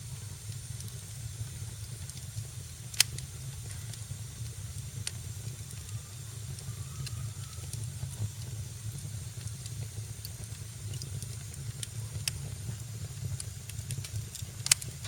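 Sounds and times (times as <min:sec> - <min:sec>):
wood fire crackling and hissing: 0:00.0 - 0:15.0.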